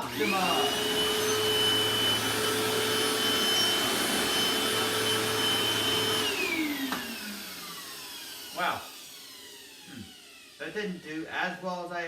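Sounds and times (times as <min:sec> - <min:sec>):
motor winding down: 0:00.0 - 0:11.5
vacuum cleaner running: 0:00.0 - 0:11.5.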